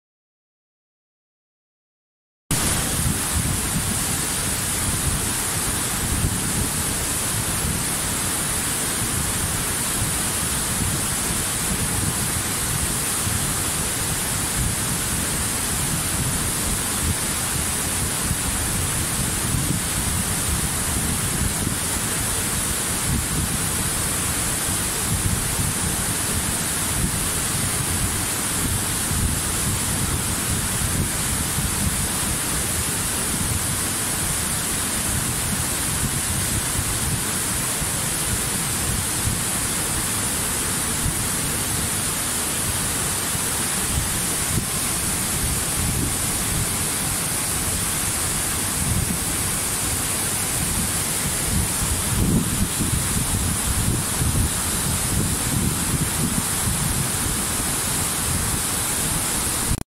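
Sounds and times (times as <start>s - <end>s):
waterfall rushing: 2.5s - 59.8s.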